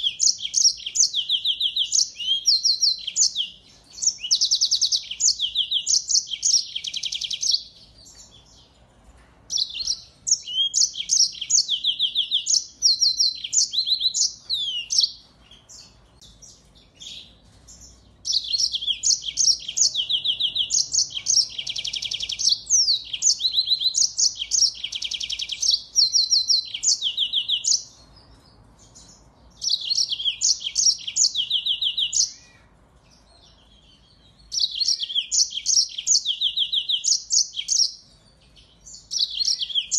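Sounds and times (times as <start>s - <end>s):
finch trilling and twittering: 0.0s - 8.8s, 9.5s - 39.9s.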